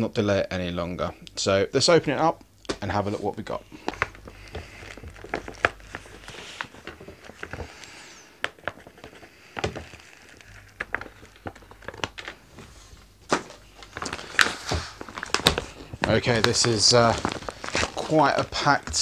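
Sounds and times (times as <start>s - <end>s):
plastic pouch crinkling: 3.4s - 19.0s.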